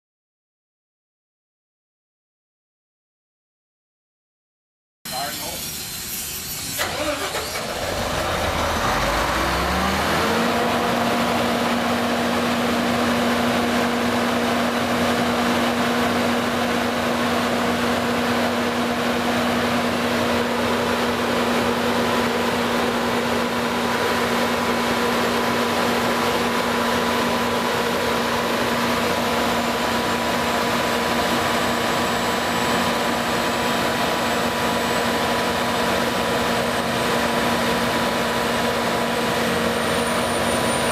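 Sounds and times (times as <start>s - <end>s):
diesel generator starting and running: 5.1s - 40.9s.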